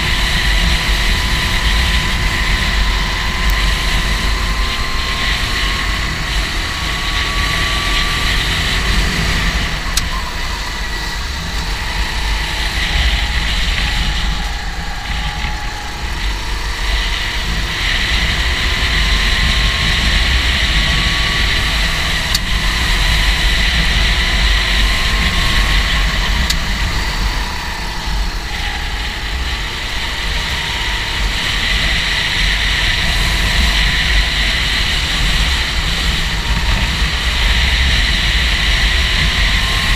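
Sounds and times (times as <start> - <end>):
go-kart engine whining: 0.0 - 39.9.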